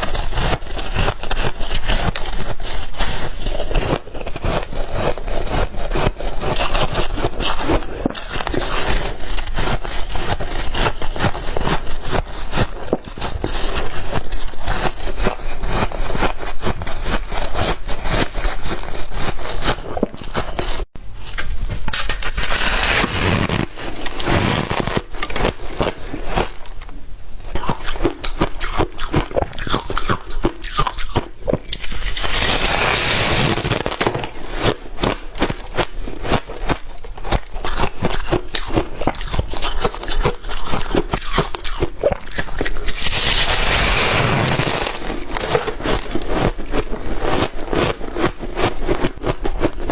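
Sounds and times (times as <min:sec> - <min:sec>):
ice being chewed: 0:00.0 - 0:20.8, 0:21.9 - 0:49.9.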